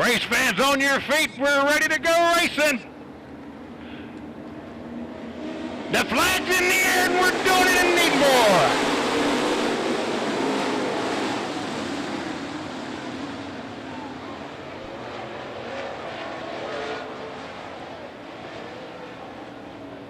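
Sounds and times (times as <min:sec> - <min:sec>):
race car engines at full throttle: 0:00.0 - 0:20.0.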